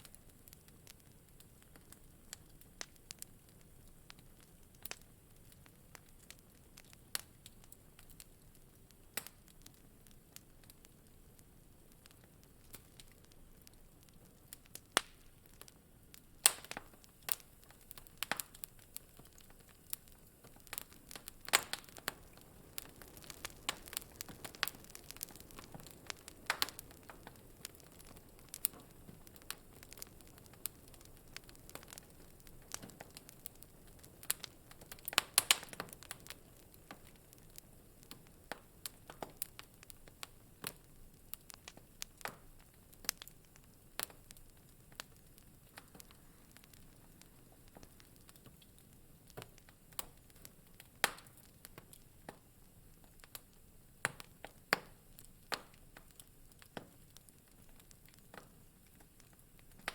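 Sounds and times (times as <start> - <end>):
faint fire hiss: 0.0 - 59.9
wood fire crackling and popping: 0.0 - 59.9.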